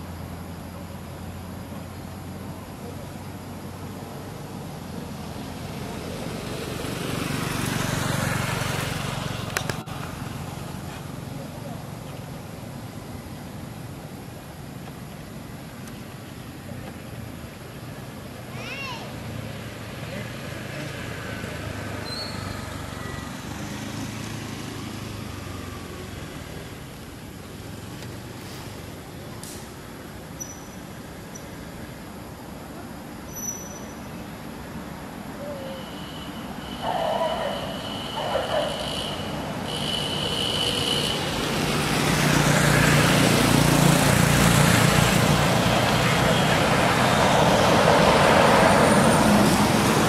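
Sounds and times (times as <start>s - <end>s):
vehicle passing on road: 0.0s - 50.0s.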